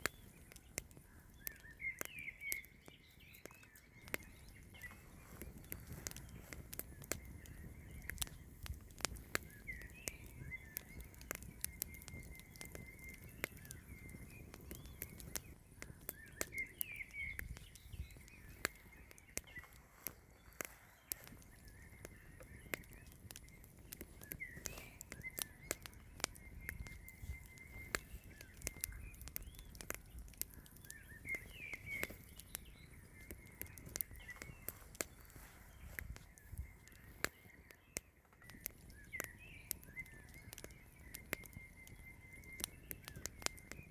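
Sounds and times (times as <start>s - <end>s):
birds chirping: 0.0s - 43.9s
sharp irregular clicks and crackles: 0.0s - 43.9s.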